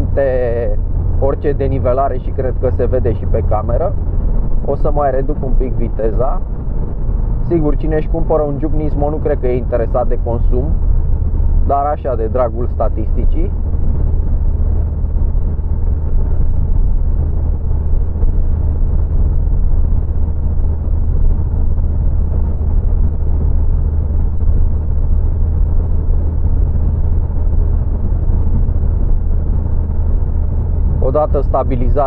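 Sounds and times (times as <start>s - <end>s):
road and engine rumble in car cabin: 0.0s - 32.0s.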